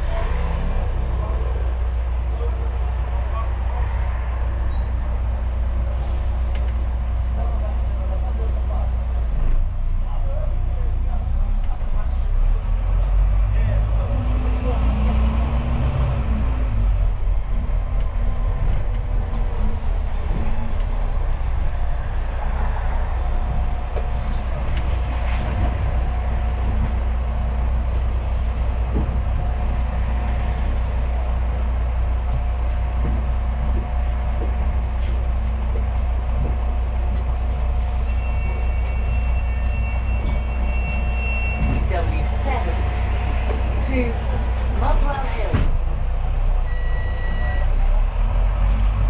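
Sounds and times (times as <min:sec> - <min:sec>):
bus engine and road drone: 0:00.0 - 0:49.0.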